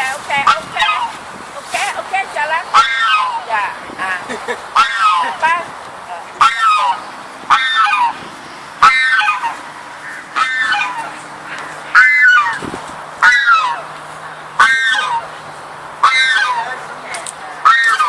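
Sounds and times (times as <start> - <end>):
peafowl honking calls: 0.0 - 18.0.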